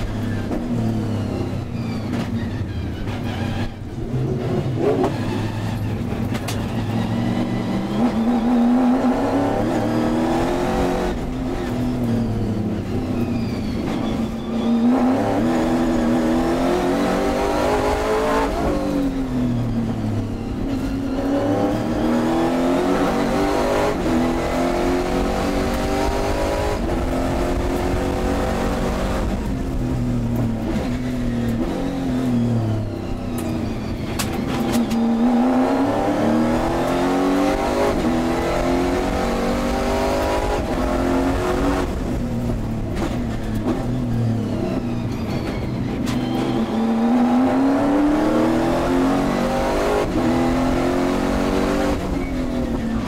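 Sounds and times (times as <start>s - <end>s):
wind and tyre noise: 0.0s - 53.0s
racing car engine accelerating: 3.2s - 53.0s.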